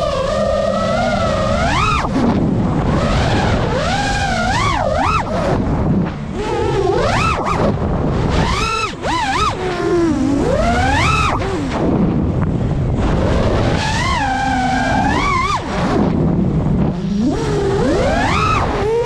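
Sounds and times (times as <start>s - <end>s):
drone motors whining: 0.0s - 19.0s
wind rushing: 0.0s - 19.0s.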